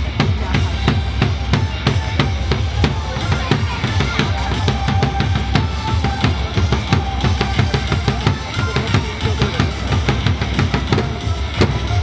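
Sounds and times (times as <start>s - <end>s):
drum-driven cheer music: 0.0s - 12.0s.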